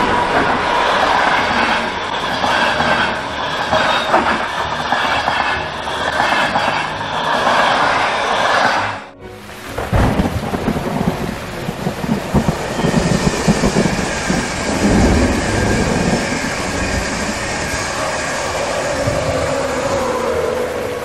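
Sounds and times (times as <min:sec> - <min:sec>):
train wheels rushing on rails: 0:00.0 - 0:21.0.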